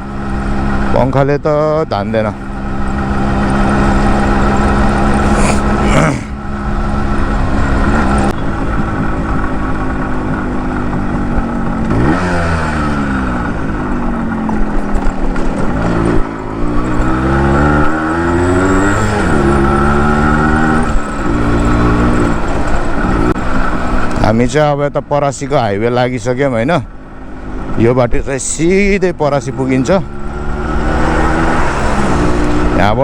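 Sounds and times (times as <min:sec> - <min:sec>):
two-stroke motorcycle engine: 0:00.0 - 0:24.6, 0:26.8 - 0:33.0.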